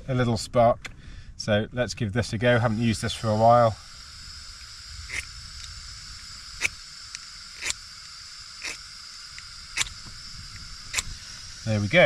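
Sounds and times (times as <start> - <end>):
steady gas hiss: 0.9 - 12.0.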